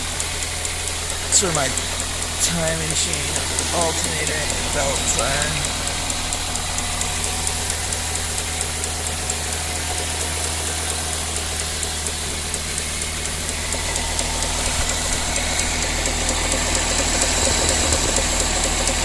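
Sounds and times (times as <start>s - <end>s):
car engine idling: 0.0s - 19.0s
quick even belt ticking: 0.0s - 19.0s.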